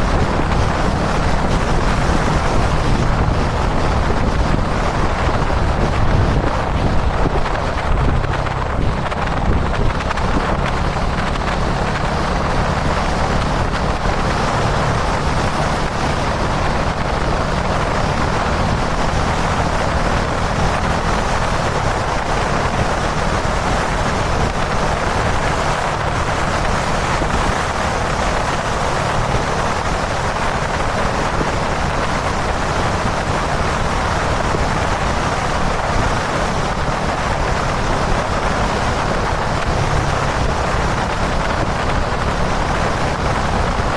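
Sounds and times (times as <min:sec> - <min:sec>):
motorcycle engine cruising: 0:00.0 - 0:43.9
wind rush on microphone: 0:00.0 - 0:43.9.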